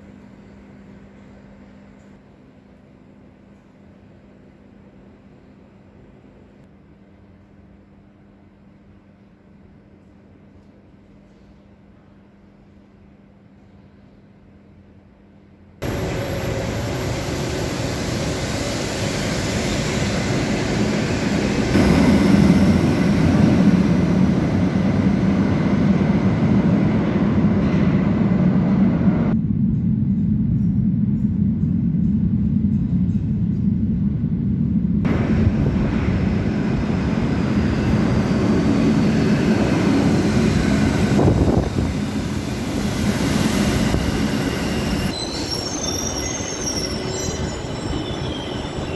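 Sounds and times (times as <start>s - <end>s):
metro train rumbling on rails: 0.0s - 48.9s.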